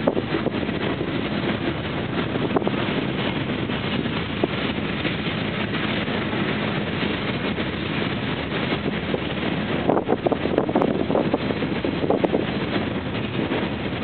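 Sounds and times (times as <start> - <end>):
train wheels rumbling on rails: 0.0 - 14.0
wind noise on microphone: 0.0 - 14.0.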